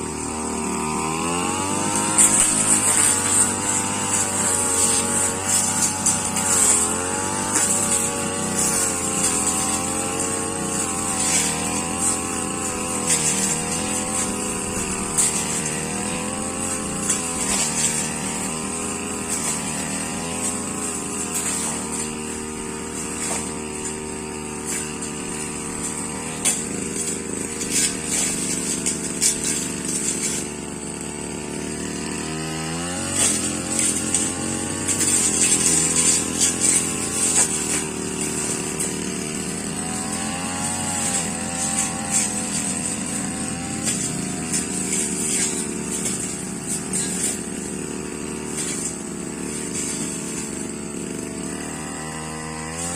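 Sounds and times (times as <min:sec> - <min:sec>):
brush cutter engine under load: 0:00.0 - 0:52.9
blade striking with sharp cracks: 0:01.8 - 0:31.1, 0:32.0 - 0:50.7.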